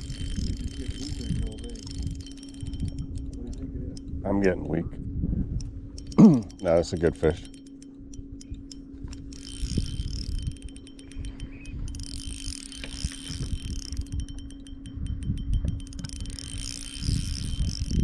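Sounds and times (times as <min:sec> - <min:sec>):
fishing reel clicking: 0:00.0 - 0:04.9, 0:05.5 - 0:18.0
steady low hum: 0:00.0 - 0:18.0.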